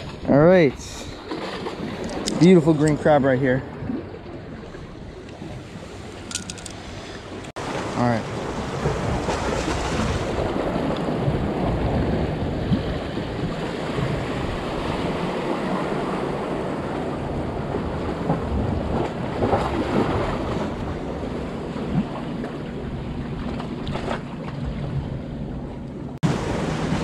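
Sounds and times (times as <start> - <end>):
waves splashing against rocks: 0.8 - 22.8, 26.2 - 27.0
motorboat engine: 0.9 - 7.5, 10.4 - 27.0.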